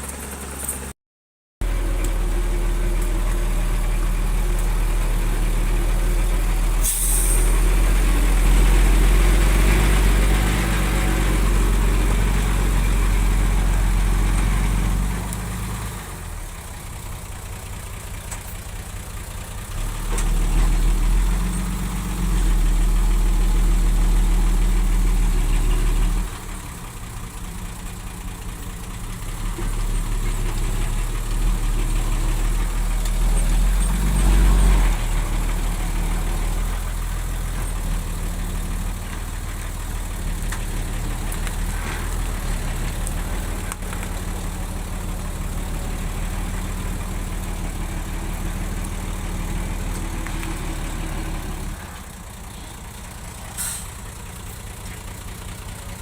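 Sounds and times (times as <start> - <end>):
diesel machinery engine humming: 0.0 - 0.9, 1.6 - 56.0.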